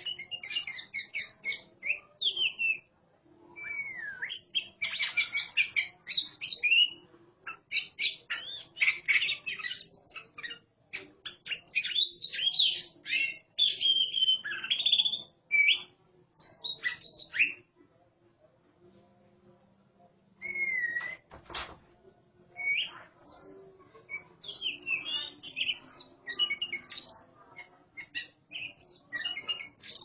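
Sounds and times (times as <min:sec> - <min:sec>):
birds singing: 0:00.0 - 0:02.9, 0:03.5 - 0:17.7, 0:22.6 - 0:30.0.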